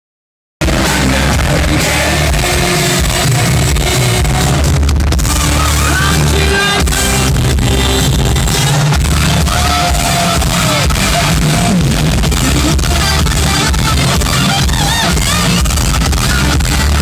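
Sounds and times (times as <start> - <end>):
live hard rock band: 0.6 - 17.0
singer's voice: 0.6 - 17.0.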